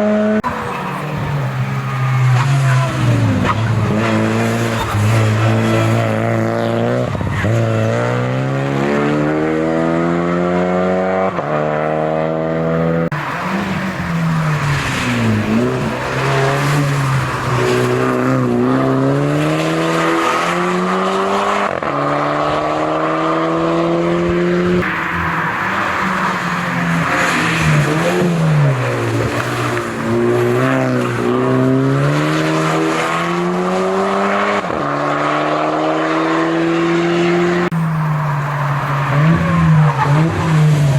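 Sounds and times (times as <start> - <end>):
race car engine at full throttle: 0.0 - 40.9.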